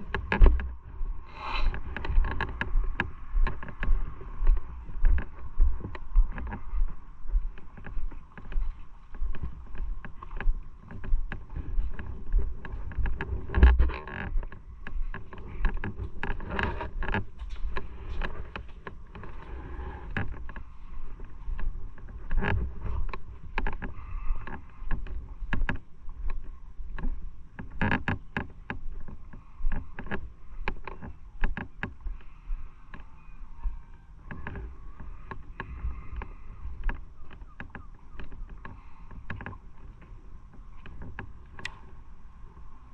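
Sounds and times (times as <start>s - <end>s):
motorcycle engine and road hum: 0.0s - 42.9s
wind buffeting microphone: 0.0s - 42.9s.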